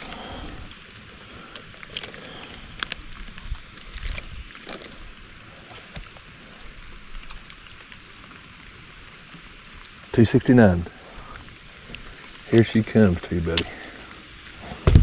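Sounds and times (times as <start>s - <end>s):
water noise around boat: 0.0s - 15.0s
wind: 0.0s - 15.0s.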